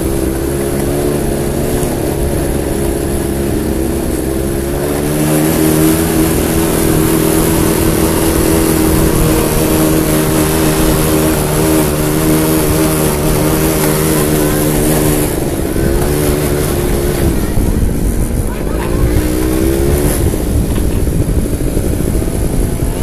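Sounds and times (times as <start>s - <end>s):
quad bike engine revving: 0.0s - 23.0s
wind rumbling on microphone: 0.0s - 23.0s.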